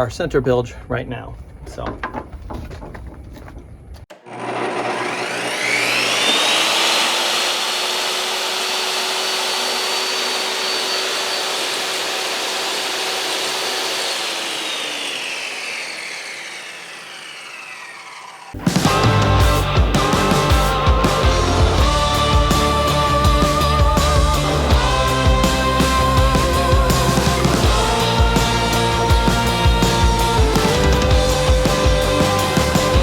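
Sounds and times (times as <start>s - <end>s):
power saw cutting foam board: 4.1s - 33.0s.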